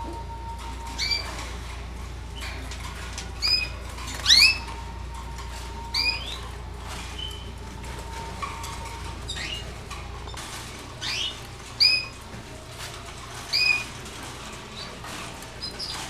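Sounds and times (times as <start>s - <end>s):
canaries calling: 0.0s - 16.0s.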